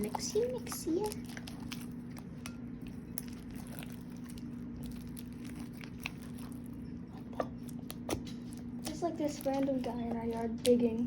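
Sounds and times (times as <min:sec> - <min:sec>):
steady low hum: 0:00.0 - 0:11.0
sticky slime crackles: 0:00.0 - 0:11.0.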